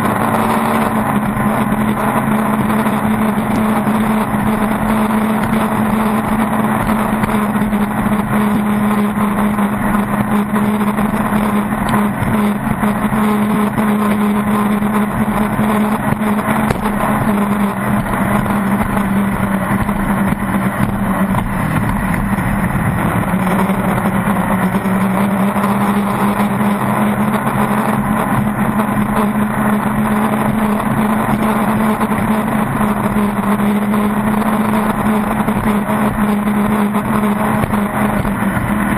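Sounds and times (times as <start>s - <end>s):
racing boat engine running hard: 0.0s - 38.9s
rush of noise: 0.0s - 38.9s.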